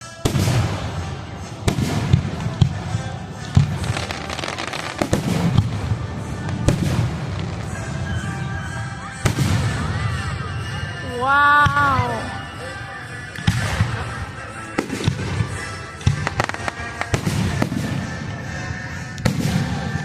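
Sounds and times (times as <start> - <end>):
fireworks bangs: 0.0 - 10.8, 13.3 - 20.0
fireworks crackling: 0.0 - 20.0.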